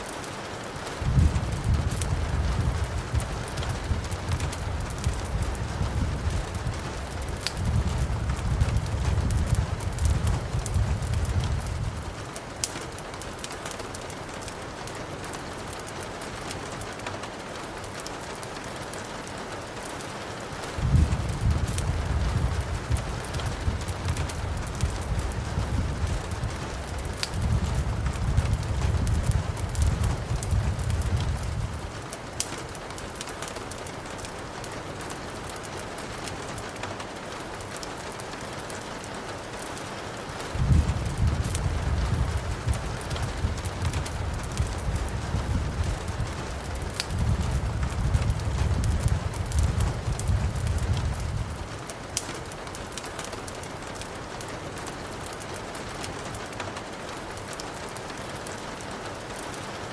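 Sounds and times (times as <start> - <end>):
sharp ticks and crackles: 0.0 - 59.9
steady rain falling: 0.0 - 59.9.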